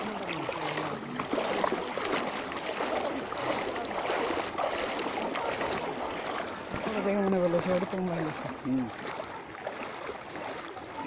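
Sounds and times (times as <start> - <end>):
rushing water: 0.0 - 11.0
splashing footsteps in water: 0.0 - 11.0.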